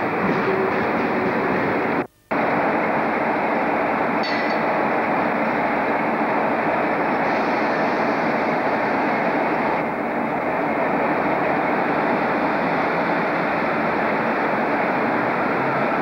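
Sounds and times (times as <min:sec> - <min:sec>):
train running slowly: 0:00.0 - 0:16.0.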